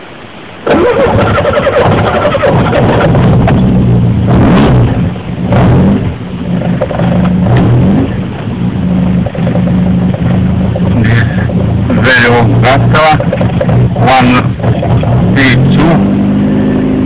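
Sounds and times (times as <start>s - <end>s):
car engine running: 0.5s - 17.0s
engine knocks: 0.7s - 16.1s.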